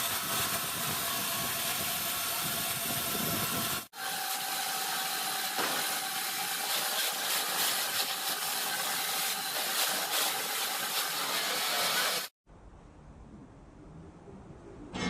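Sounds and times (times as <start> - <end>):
industrial log saw cutting timber: 0.0 - 12.3.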